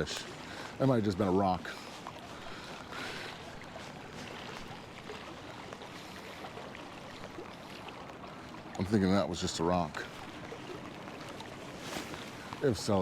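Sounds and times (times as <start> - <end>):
river current rushing: 0.0 - 13.0.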